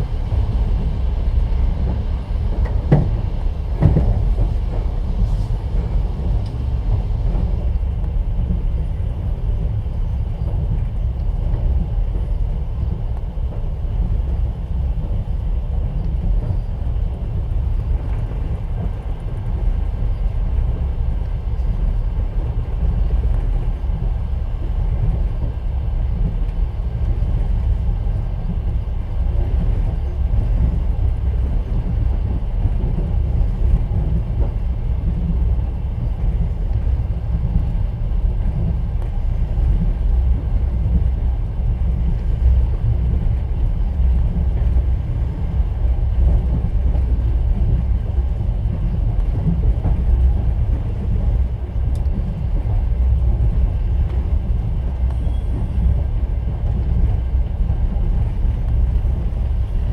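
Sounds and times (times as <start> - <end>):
moving train rumble: 0.0 - 59.9.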